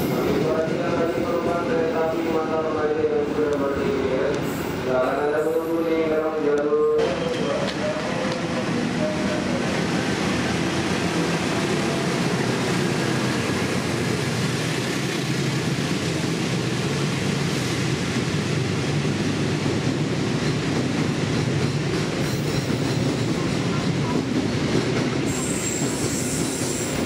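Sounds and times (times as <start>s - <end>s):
diesel locomotive engine: 0.0s - 27.0s.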